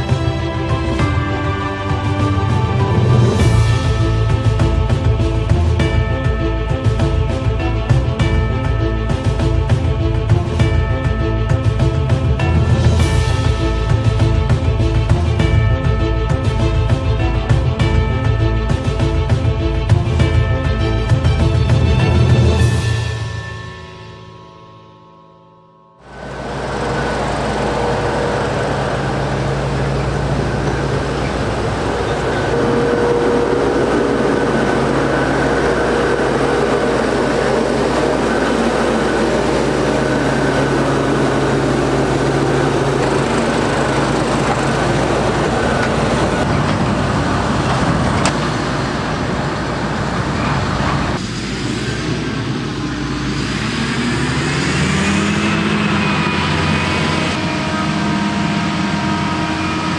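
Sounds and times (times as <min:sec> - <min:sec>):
harvester engine drone: 0:00.0 - 0:23.7, 0:26.0 - 0:59.9.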